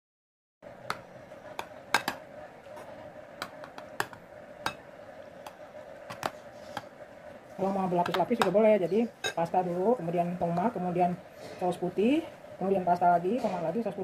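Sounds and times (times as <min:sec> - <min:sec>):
faint steady hum: 0:00.6 - 0:14.0.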